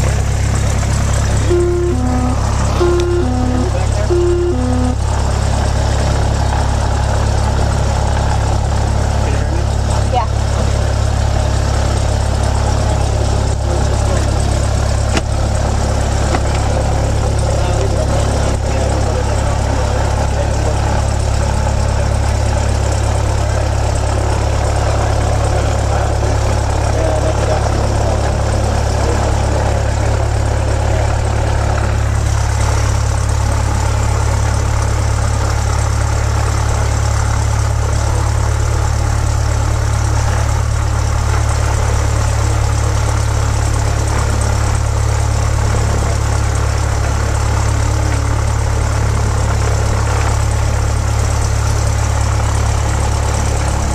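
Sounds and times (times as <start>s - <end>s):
light aircraft engine droning: 0.0s - 53.9s.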